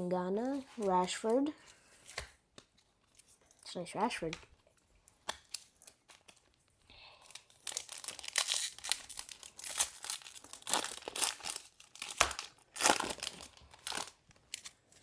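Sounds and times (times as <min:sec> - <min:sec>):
plastic wrapper tearing and crinkling: 0:02.1 - 0:15.0.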